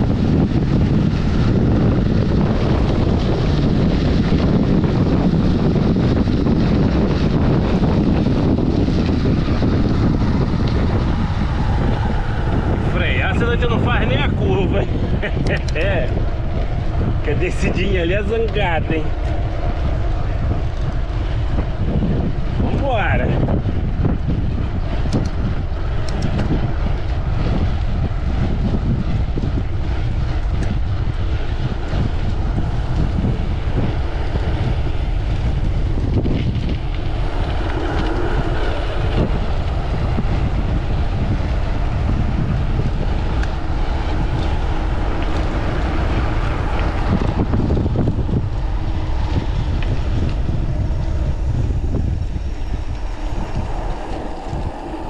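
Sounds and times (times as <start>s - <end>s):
bike rumbling over trail: 0.0s - 55.0s
wind buffeting microphone: 0.0s - 55.0s.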